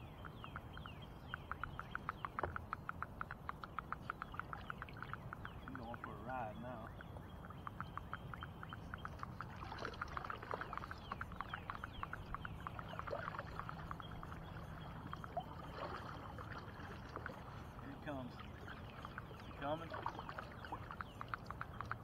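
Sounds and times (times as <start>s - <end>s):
low rumble of water and air: 0.0s - 22.0s.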